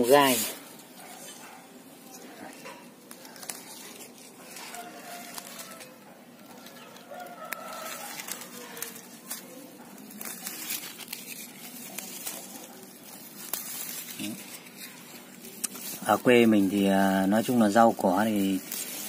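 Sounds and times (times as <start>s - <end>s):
leaves rustling and snapping: 0.0s - 19.0s.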